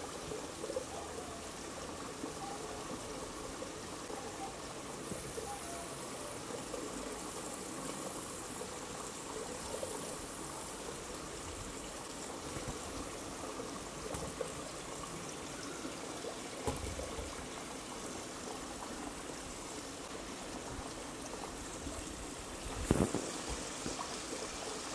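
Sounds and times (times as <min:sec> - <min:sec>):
running water: 0:00.0 - 0:24.9.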